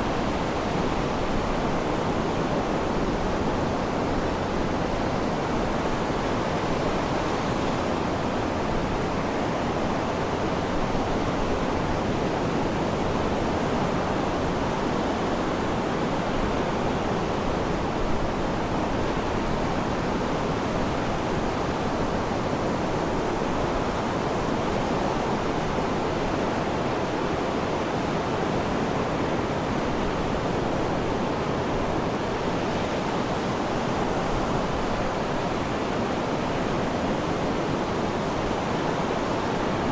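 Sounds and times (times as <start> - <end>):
sea surf: 0.0 - 39.9.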